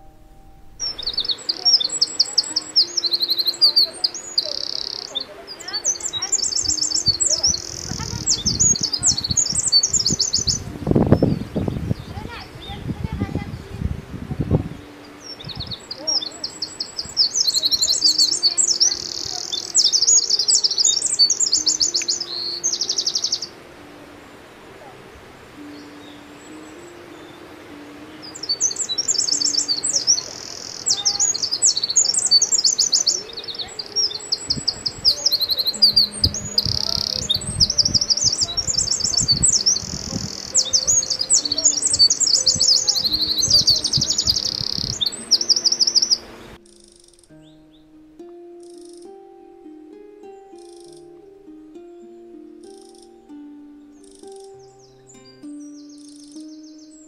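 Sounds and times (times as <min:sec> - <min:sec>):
wren singing trills: 0:00.0 - 0:57.0.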